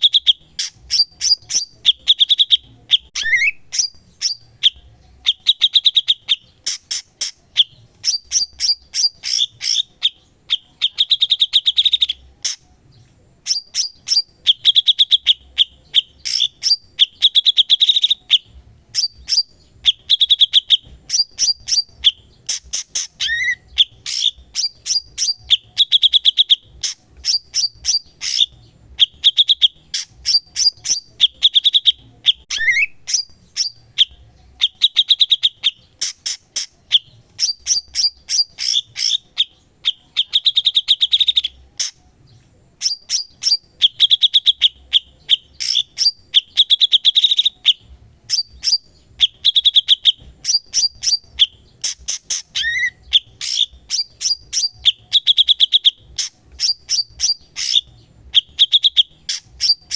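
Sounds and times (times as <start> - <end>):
bird singing with chips and trills: 0.0 - 59.9.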